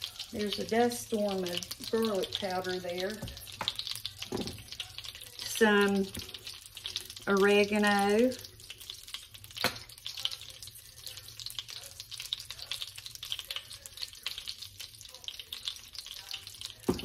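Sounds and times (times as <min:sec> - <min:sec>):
sugar sizzling in a pan: 0:00.0 - 0:17.0.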